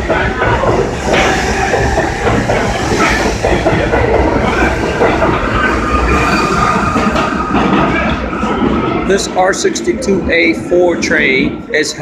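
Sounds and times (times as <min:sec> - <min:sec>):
subway train running on track: 0:00.0 - 0:12.0.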